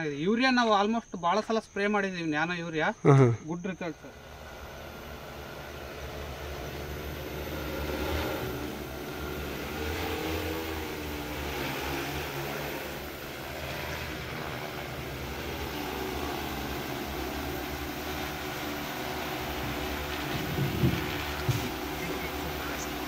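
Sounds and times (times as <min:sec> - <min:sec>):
drone propellers humming: 0:03.6 - 0:23.0.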